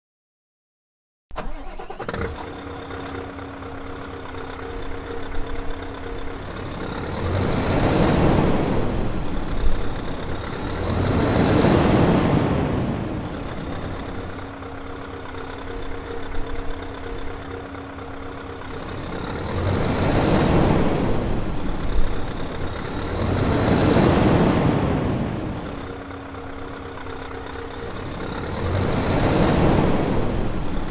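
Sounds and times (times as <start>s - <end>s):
diesel truck engine revving: 1.4s - 30.9s
diesel truck engine idling: 1.6s - 11.7s, 12.3s - 30.9s.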